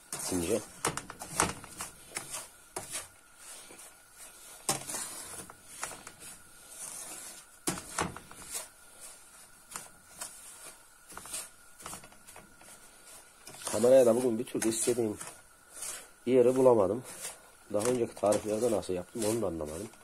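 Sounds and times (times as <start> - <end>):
wooden spoon scraping metal pan: 0.0 - 20.0.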